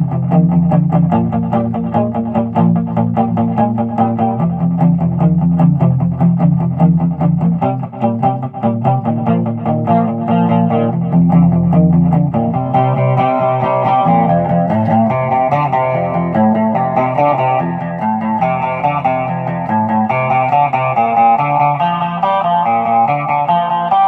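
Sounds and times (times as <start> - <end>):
low bass line: 0.0 - 20.8
electric guitar boogie: 0.0 - 24.0.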